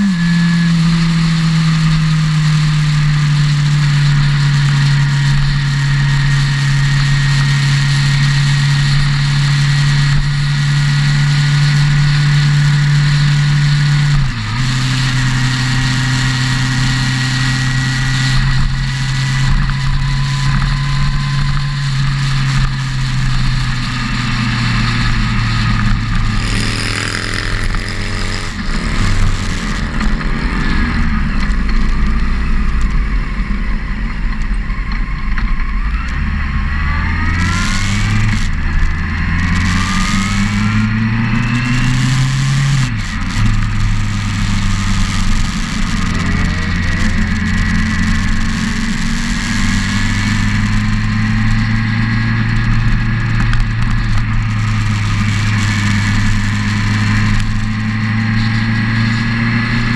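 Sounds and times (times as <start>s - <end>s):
motorcycle engine running: 0.0s - 59.9s
other motorcycle engines nearby: 0.0s - 59.9s
wind and road noise: 0.0s - 59.9s.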